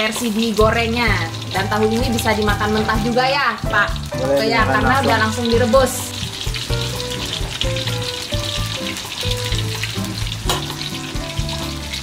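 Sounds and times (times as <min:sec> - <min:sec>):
tofu sizzling in oil: 0:00.0 - 0:12.0
background music with bass: 0:00.6 - 0:12.0.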